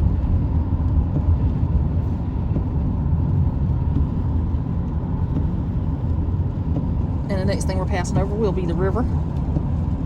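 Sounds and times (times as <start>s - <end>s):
car road rumble: 0.0s - 10.0s.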